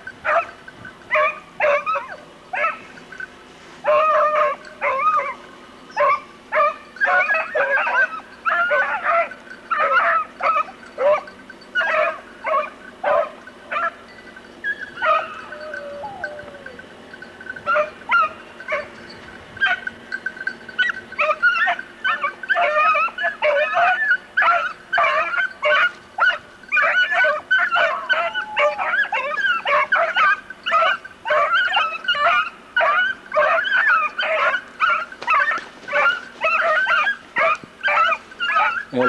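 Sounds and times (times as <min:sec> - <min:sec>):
beagles baying: 0:00.0 - 0:39.0.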